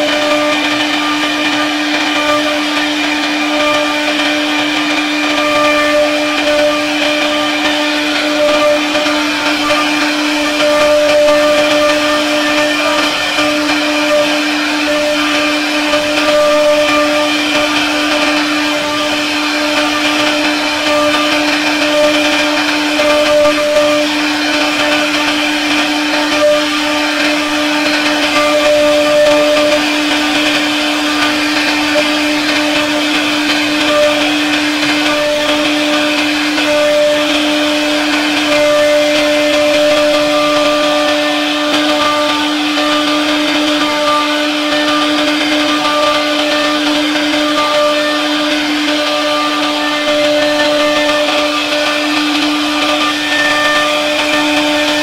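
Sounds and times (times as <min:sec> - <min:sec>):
router spindle whining while carving wood: 0:00.0 - 0:55.0.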